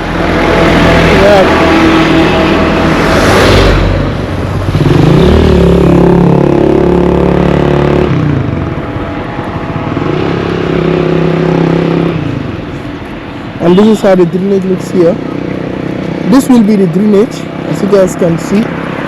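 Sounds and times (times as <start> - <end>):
vehicle engines on road: 0.0 - 19.0.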